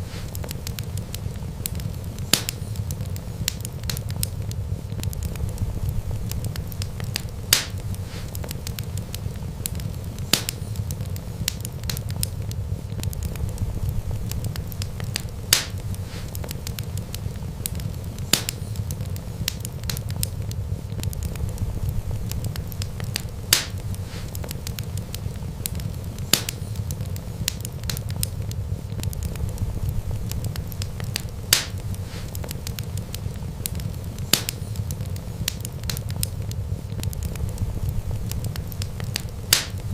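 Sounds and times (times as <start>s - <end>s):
fire crackling pops: 0.0s - 39.9s
low rumble of flames: 0.0s - 39.9s.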